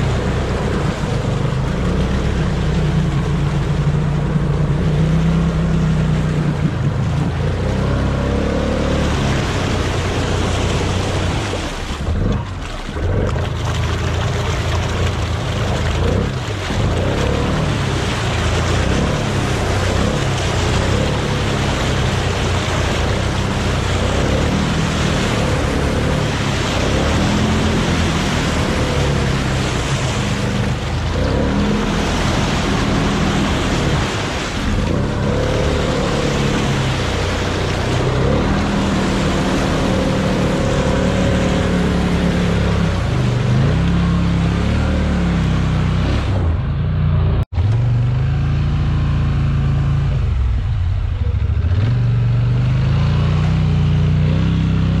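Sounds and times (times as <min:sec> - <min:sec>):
atv engine revving: 0:00.0 - 0:55.0
splashing through mud and water: 0:00.0 - 0:55.0.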